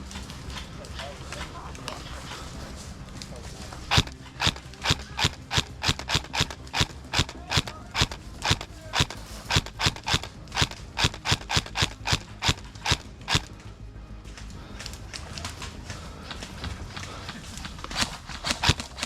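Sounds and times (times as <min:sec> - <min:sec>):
gear jostling: 0:00.0 - 0:19.0
running footsteps: 0:00.0 - 0:19.0.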